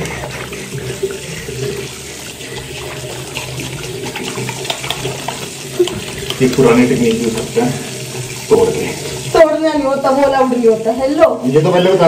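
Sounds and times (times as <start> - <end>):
hands rubbing wet soap: 0.0 - 10.9
tap water running into sink: 0.0 - 12.0.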